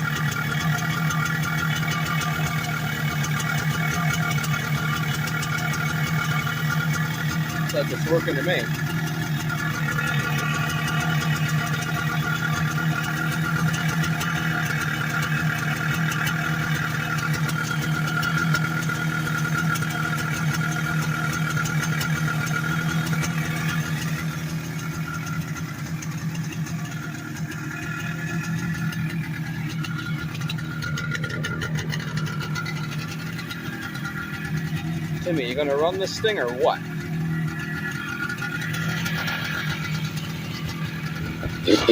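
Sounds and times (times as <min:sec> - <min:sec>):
two-stroke engine idling: 0:00.0 - 0:41.9.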